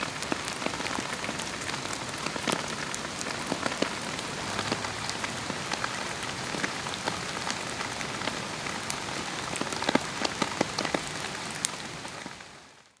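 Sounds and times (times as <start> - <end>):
rain hissing in a garden: 0.0 - 13.0
raindrops ticking close by: 0.0 - 13.0.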